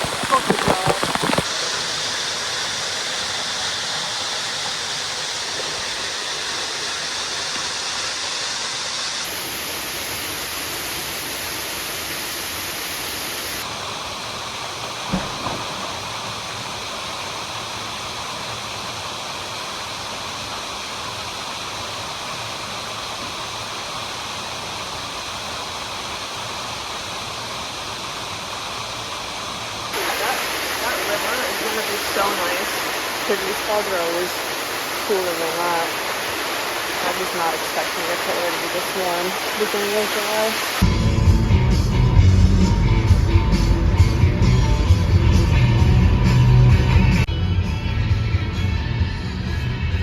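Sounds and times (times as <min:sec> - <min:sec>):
waterfall rushing into pool: 0:00.0 - 0:41.5.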